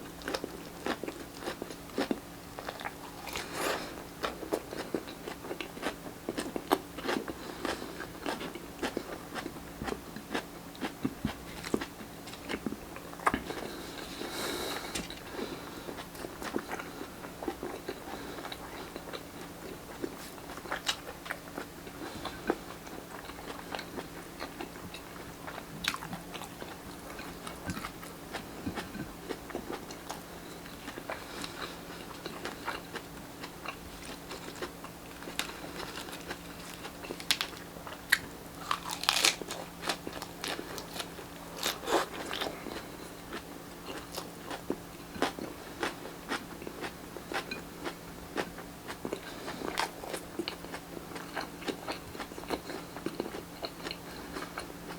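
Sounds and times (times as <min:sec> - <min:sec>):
crunching and chewing food: 0:00.0 - 0:54.9
faint steady hum: 0:00.0 - 0:54.9.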